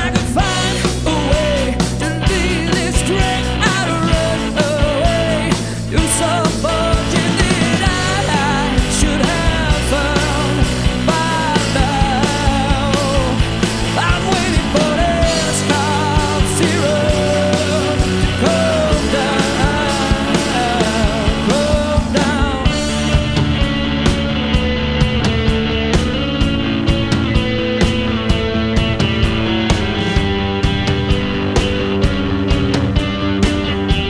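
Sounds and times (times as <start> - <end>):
drums and bass: 0.0 - 34.0.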